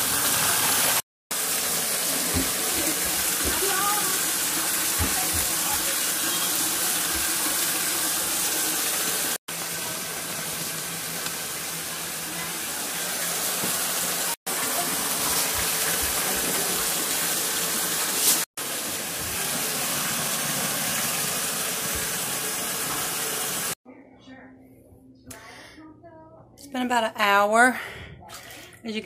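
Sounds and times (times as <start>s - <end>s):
water gushing from bathtub tap: 0.0s - 23.8s.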